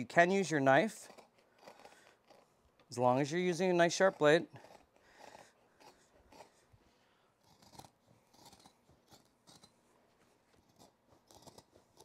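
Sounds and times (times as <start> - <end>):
shears snipping carpet: 0.0 - 6.8, 7.4 - 12.0.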